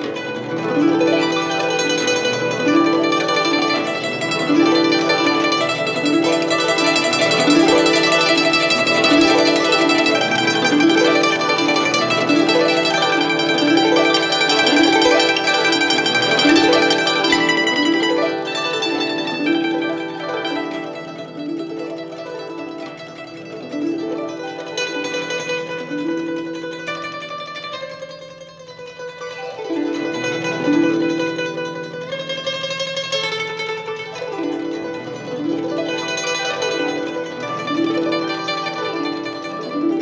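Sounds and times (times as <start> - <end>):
plucked string music: 0.0 - 40.0.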